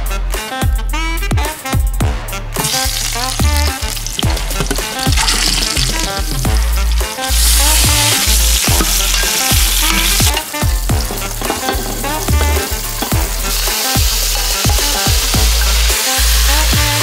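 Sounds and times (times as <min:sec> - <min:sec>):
electronic music with kick drum: 0:00.6 - 0:17.0
food sizzling in hot oil: 0:02.6 - 0:17.0.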